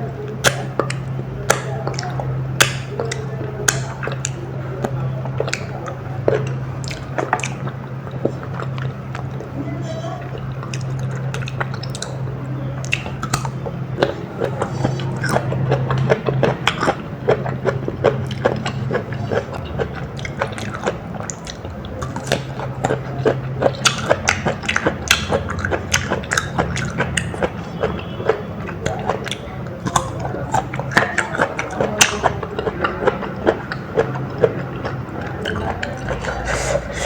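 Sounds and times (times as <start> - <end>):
chewing with wet mouth clicks: 0.0 - 37.0
steady low hum: 0.0 - 37.0.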